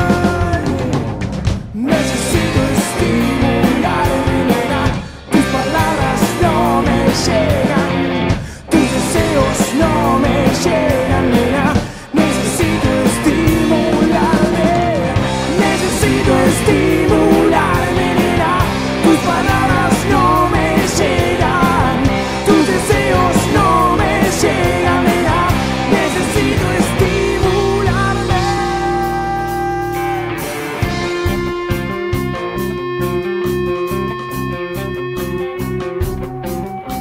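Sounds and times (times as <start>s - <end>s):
man singing: 0.0s - 32.0s
rock band playing: 0.0s - 37.0s.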